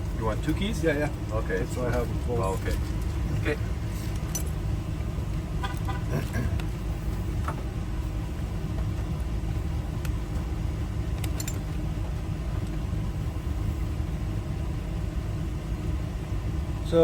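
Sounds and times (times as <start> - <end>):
engine low rumble: 0.0 - 17.0.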